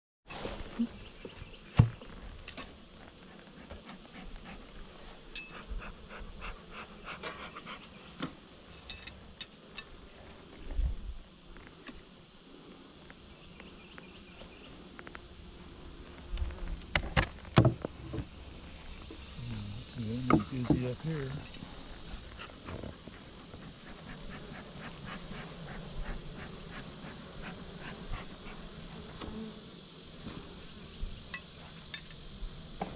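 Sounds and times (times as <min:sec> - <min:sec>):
honeybees buzzing: 0:00.6 - 0:32.9.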